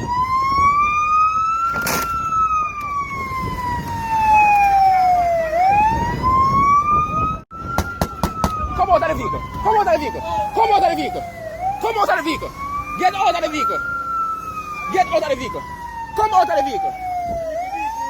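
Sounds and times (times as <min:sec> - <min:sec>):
police siren wailing: 0:00.0 - 0:18.0.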